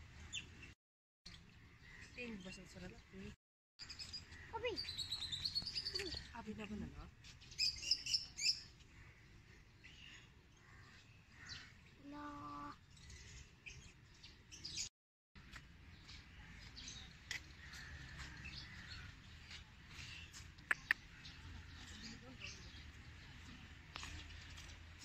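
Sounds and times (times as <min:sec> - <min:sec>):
birds chirping: 0:00.2 - 0:25.0.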